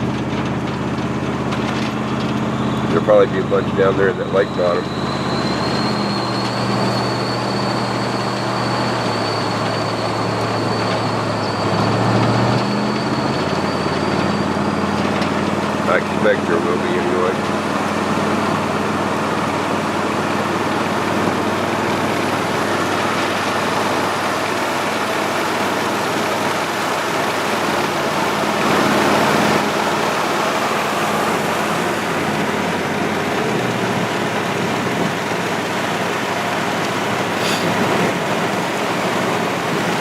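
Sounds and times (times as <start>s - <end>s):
road and tyre noise: 0.0s - 40.0s
vehicle engine running: 0.0s - 40.0s.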